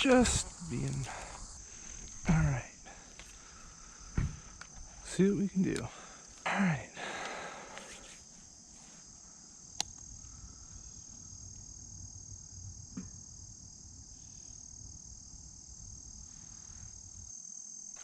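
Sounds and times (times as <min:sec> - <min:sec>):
insect chorus trilling: 0:00.0 - 0:18.0.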